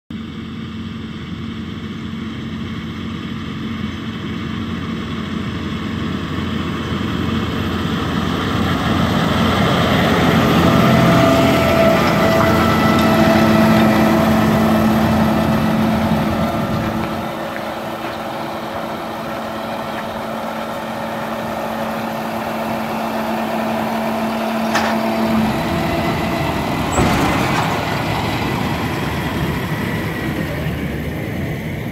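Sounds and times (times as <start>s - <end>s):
tractor engine running: 0.2s - 31.9s.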